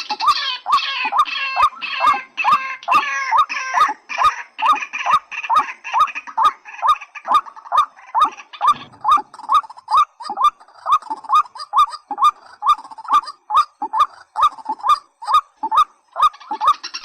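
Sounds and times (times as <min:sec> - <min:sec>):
fuller bird call: 0:00.0 - 0:17.0.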